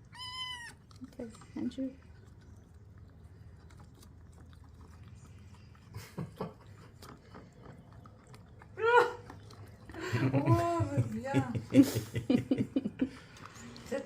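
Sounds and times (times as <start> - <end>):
kittens lapping and chewing: 0.0 - 14.0.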